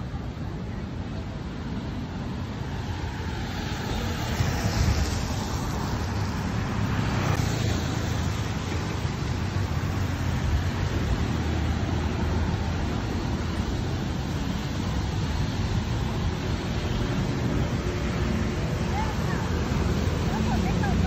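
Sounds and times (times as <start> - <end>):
low rumble of traffic: 0.0 - 21.0
car tyres hissing on wet road: 1.8 - 21.0.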